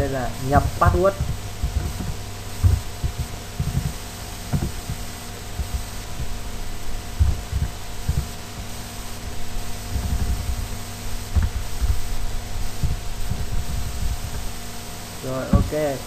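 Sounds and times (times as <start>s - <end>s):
steady electrical hum: 0.0s - 16.0s
muffled keyboard typing thuds: 0.4s - 14.6s.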